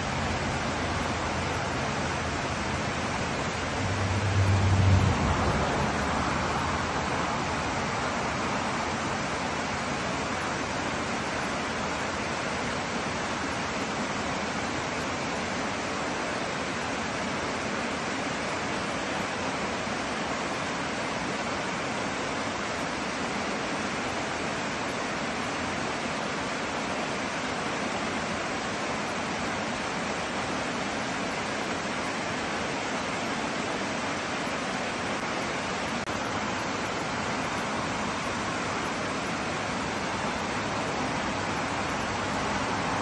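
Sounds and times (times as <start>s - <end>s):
stream rushing down rocky cascade: 0.0s - 43.0s.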